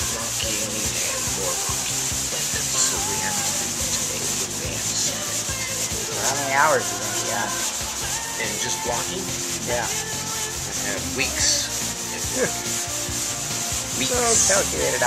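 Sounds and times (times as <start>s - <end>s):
hand rubbing on sheet metal: 0.0s - 15.0s.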